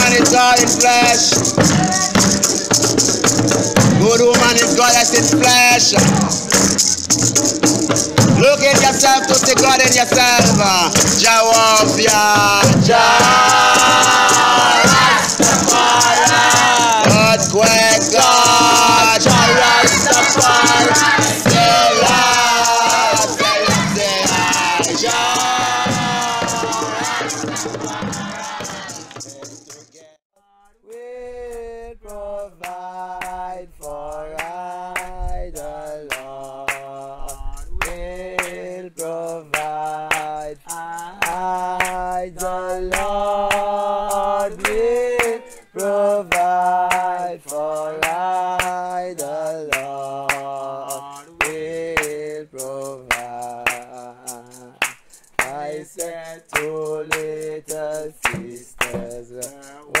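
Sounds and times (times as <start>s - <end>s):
voices singing a slow hymn: 7.8s - 60.0s.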